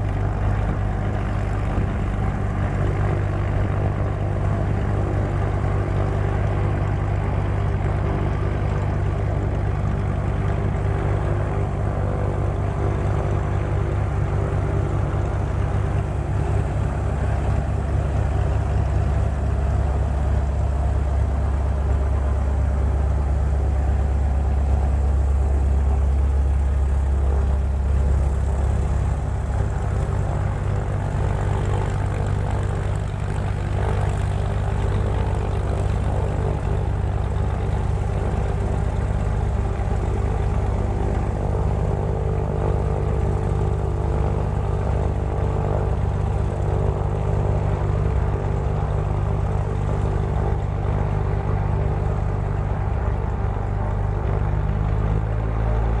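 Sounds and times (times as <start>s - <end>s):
propeller airplane engine droning: 0.0s - 56.0s.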